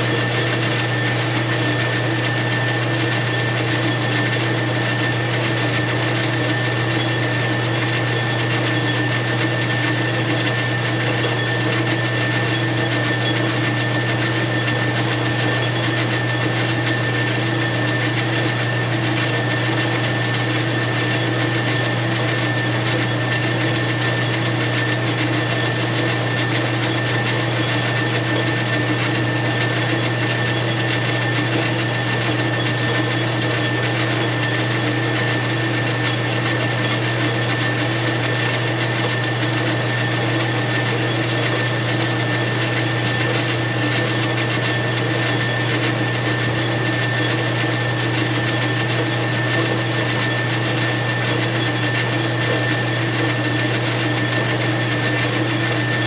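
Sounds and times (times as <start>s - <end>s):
metal lathe running: 0.0s - 56.0s.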